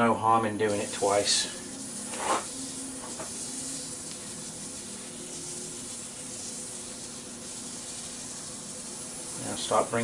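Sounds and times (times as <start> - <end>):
paper towel hissing on wood: 0.6 - 10.0.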